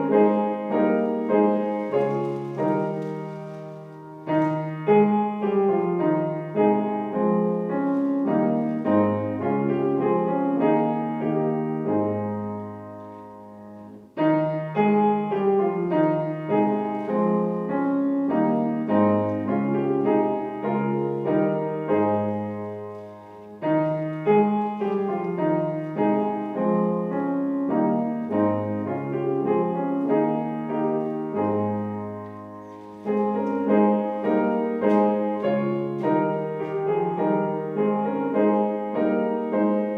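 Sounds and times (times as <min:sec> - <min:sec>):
slow solo piano melody: 0:00.0 - 0:39.9.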